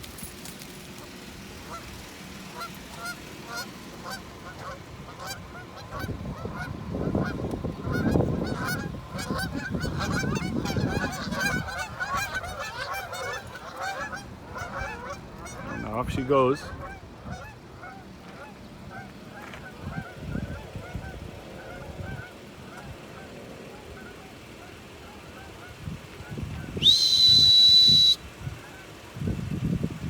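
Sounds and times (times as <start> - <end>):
geese honking: 0.5 - 29.2.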